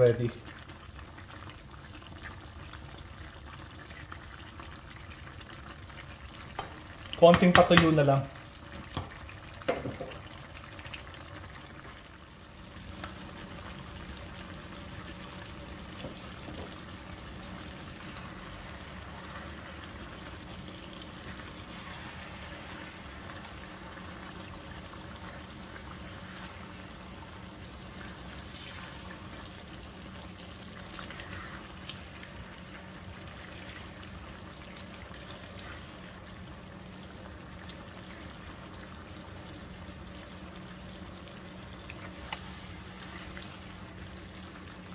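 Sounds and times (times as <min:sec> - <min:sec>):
sauce bubbling in pan: 0:00.0 - 0:44.9.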